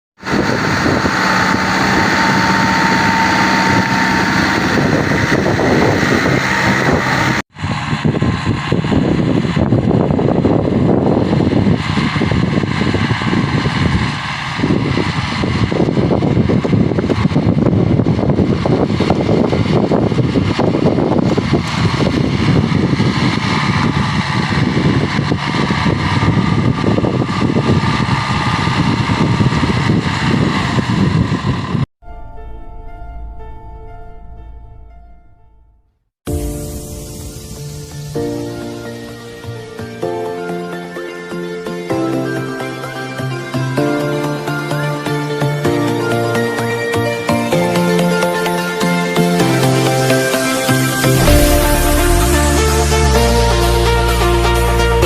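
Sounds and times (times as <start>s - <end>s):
tractor diesel engine running: 0.2s - 34.9s, 45.0s - 55.0s.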